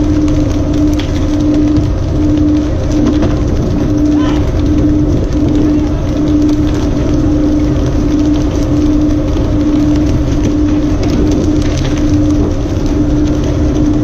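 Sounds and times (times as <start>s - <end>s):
boat engine running: 0.0s - 14.0s
water splashing along hull: 0.0s - 14.0s.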